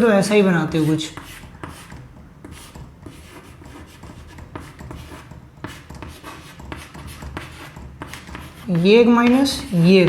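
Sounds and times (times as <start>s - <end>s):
pen scratching on paper: 0.7s - 10.0s
pen tapping: 1.1s - 10.0s.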